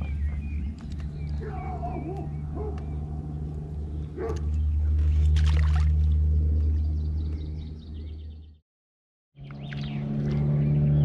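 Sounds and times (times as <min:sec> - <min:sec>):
low motor hum: 0:00.0 - 0:08.6, 0:09.4 - 0:11.0.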